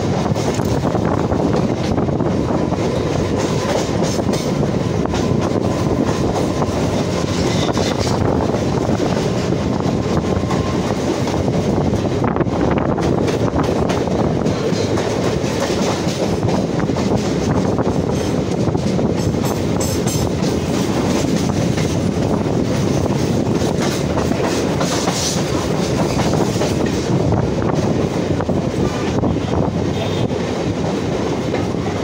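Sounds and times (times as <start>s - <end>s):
clickety-clack and rattling: 0.0s - 29.5s, 30.3s - 32.0s
train wheels rumbling on rail: 0.0s - 32.0s.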